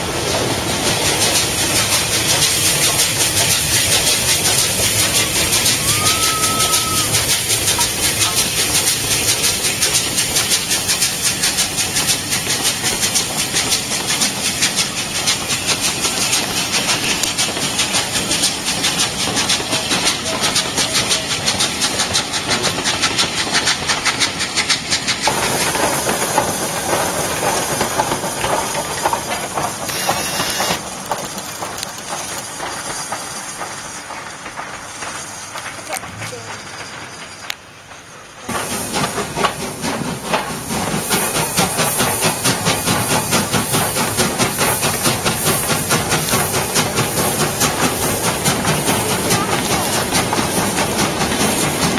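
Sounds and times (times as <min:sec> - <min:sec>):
steam hissing: 0:00.0 - 0:51.9
steam locomotive exhaust beats: 0:00.0 - 0:51.9
train wheels on rails: 0:00.0 - 0:51.9.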